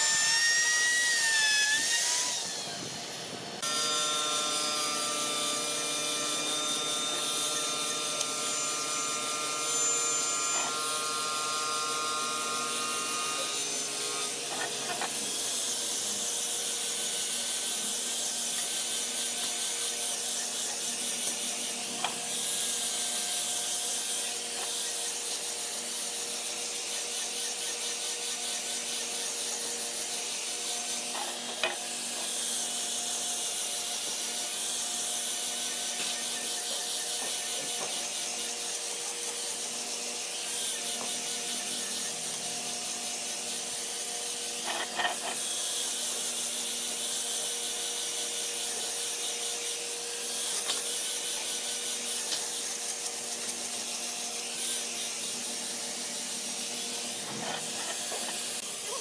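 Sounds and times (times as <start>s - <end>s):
angle grinder sanding wood: 0.0s - 59.0s.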